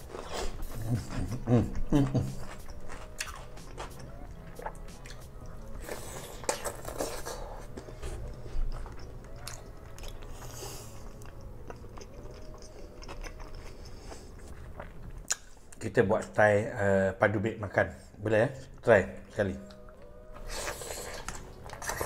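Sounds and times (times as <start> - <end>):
biting and chewing food: 0.0 - 15.6, 19.6 - 22.0.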